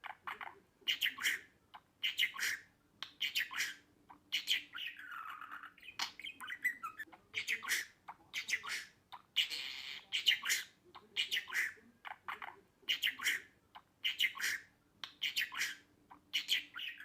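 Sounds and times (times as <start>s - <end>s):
budgerigar chattering: 0.0s - 17.0s.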